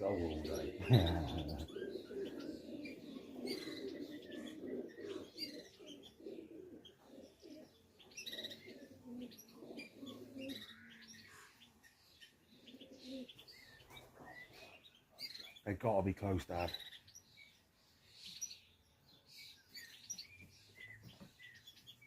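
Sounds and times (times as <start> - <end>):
pigeons cooing: 0.0 - 15.6, 16.5 - 22.0
small birds chirping: 0.0 - 22.0.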